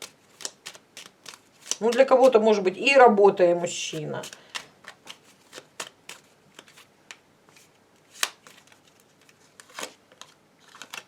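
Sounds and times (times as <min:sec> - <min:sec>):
cards being shuffled: 0:00.0 - 0:02.5, 0:03.8 - 0:11.0.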